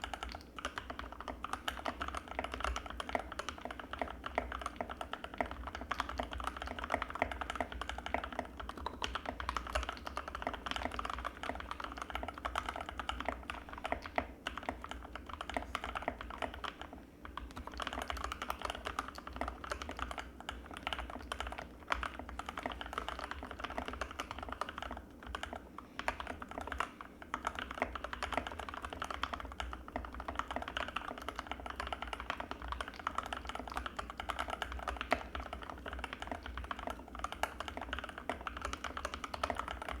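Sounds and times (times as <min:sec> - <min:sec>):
fast typing on mechanical keyboard: 0:00.0 - 0:40.0.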